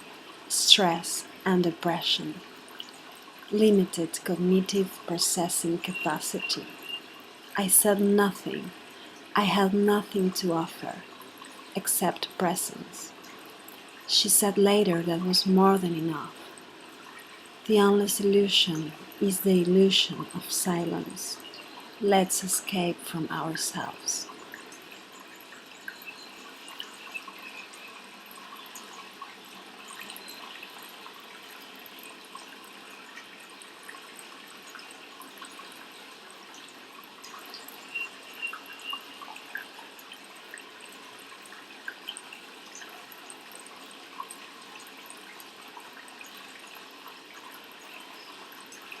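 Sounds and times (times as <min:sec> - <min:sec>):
water trickling: 0:00.0 - 0:49.0
small splashes and drips: 0:01.2 - 0:07.6, 0:08.2 - 0:17.7, 0:20.1 - 0:49.0.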